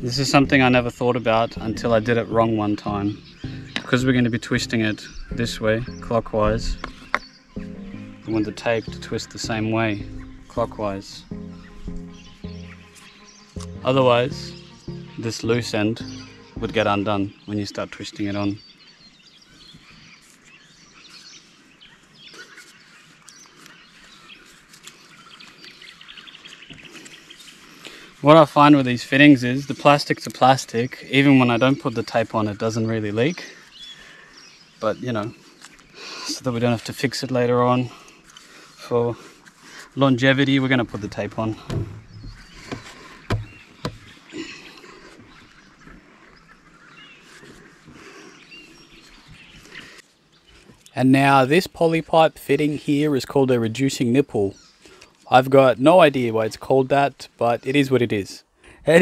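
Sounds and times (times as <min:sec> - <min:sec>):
birds chirping and calling: 0:00.0 - 0:58.6.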